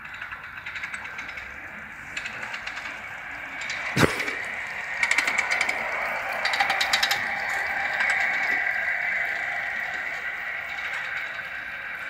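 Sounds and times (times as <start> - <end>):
rapid clicking beats: 0.0 - 12.0
steam hiss: 0.8 - 12.0.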